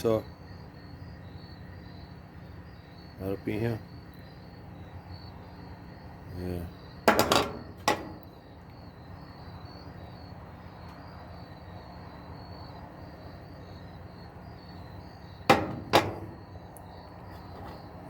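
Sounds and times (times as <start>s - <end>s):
faint insect chirping: 0.0s - 18.0s.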